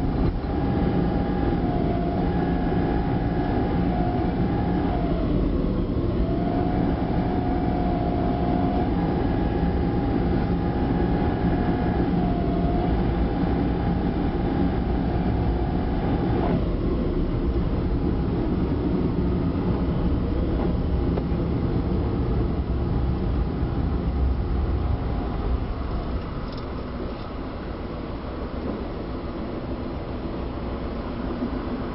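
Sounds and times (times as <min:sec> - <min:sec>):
faint wavering whine: 0:00.0 - 0:31.9
vehicle interior rumble: 0:00.0 - 0:31.9.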